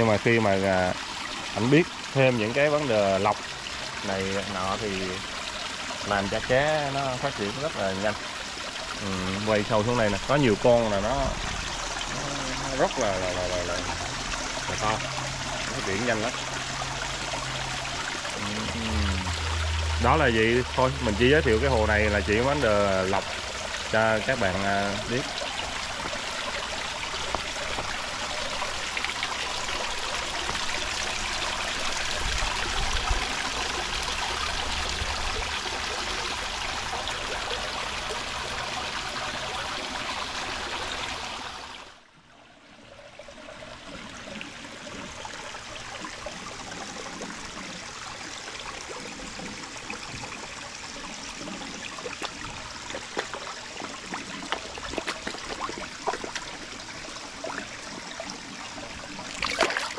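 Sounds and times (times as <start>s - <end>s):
water running and splashing: 0.0s - 42.0s, 43.0s - 59.9s.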